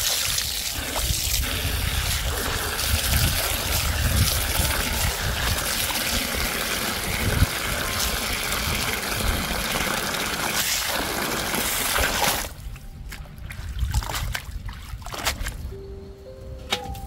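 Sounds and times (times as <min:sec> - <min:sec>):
water running and splashing: 0:00.0 - 0:15.6.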